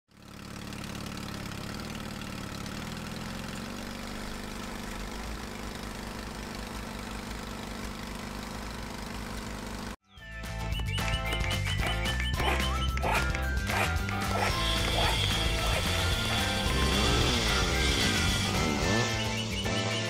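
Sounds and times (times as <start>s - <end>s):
bulldozer diesel engine running: 0.1s - 10.0s, 10.7s - 20.0s.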